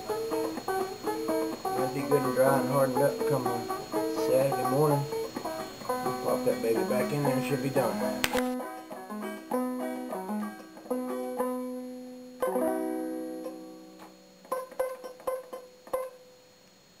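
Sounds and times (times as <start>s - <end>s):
plucked string music: 0.0s - 16.2s.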